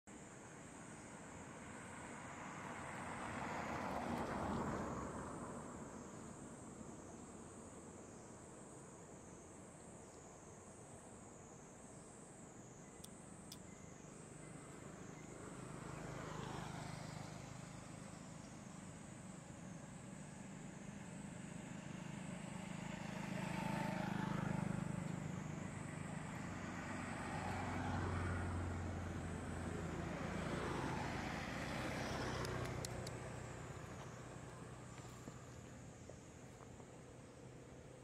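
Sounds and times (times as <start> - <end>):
road traffic passing: 0.1 - 38.0.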